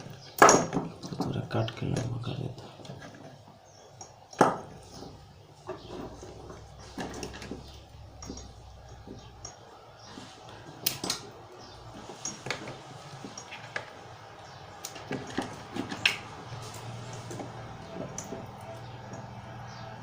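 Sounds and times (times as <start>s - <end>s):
hand tools clicking and clinking: 0.0s - 9.8s, 10.6s - 19.9s.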